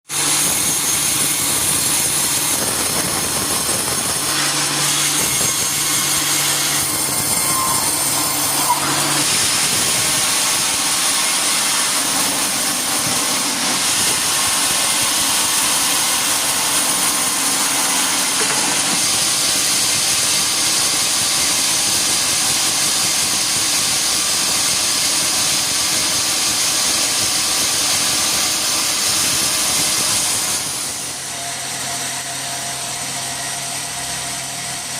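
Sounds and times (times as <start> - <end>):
sawmill saw cutting log: 0.1 - 34.9.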